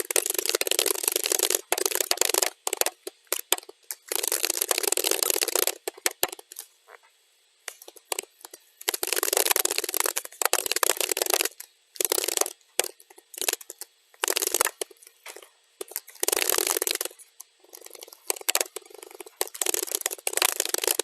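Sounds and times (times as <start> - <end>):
fast keyboard typing: 0.0 - 6.6, 7.7 - 15.0, 15.8 - 21.0.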